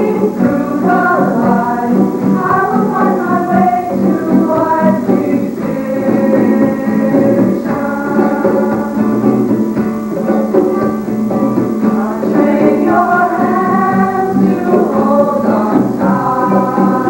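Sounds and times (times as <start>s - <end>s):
person singing: 0.0s - 10.9s, 11.8s - 17.0s
instrumental accompaniment: 0.0s - 17.0s.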